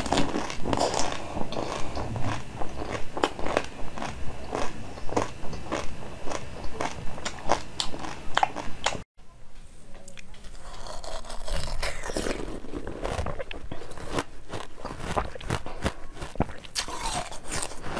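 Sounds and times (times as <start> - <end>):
crunchy chewing: 0.0 - 9.0, 10.1 - 17.9.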